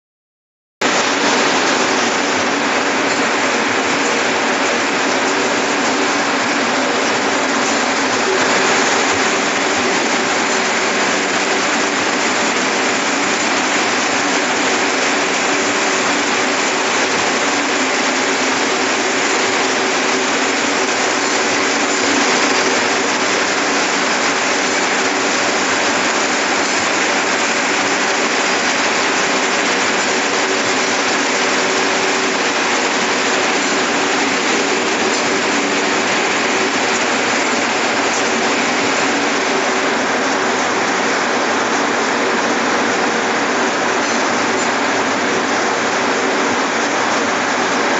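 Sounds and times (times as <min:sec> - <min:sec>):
circular looms clattering: 0:00.8 - 0:47.9
steady machine hum: 0:00.8 - 0:47.9.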